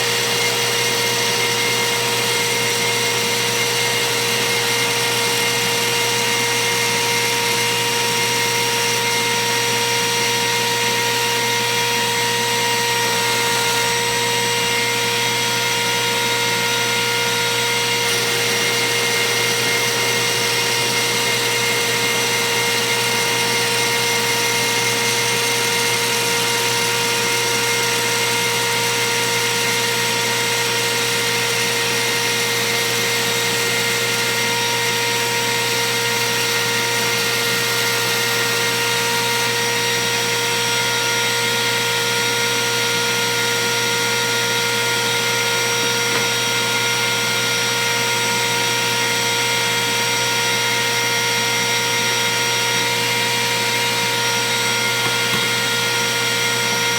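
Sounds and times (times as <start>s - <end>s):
router motor whining: 0.0s - 56.9s.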